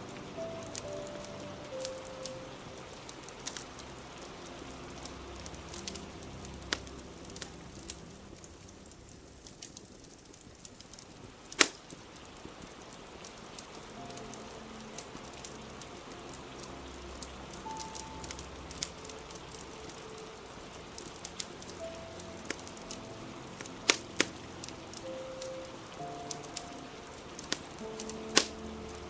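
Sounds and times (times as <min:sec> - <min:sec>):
rain hiss: 0:00.0 - 0:29.0
wood fire crackling and popping: 0:00.0 - 0:29.0.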